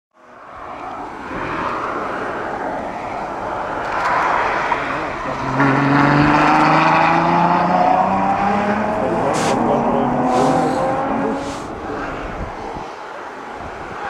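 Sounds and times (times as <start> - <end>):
sports car engine driving by: 0.7 - 12.7.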